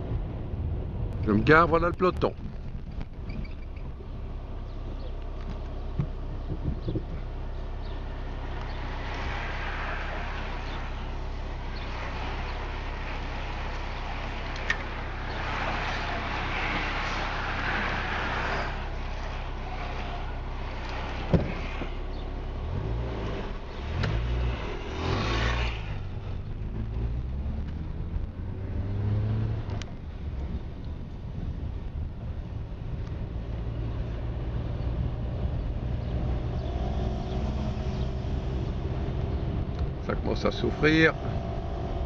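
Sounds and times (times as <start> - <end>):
motor vehicle engine running: 0.0 - 42.0
road and wind noise: 0.0 - 42.0.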